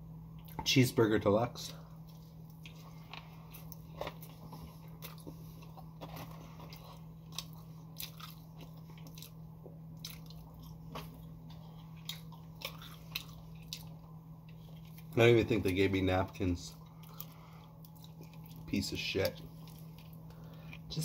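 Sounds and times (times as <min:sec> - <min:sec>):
low electrical hum: 0:00.0 - 0:21.0
chewing and crunching food: 0:00.3 - 0:00.8, 0:01.6 - 0:21.0.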